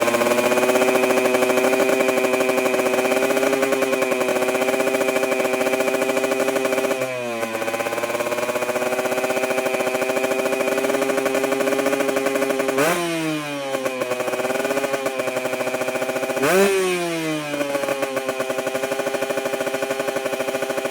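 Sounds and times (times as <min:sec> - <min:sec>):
two-stroke engine idling: 0:00.0 - 0:20.9.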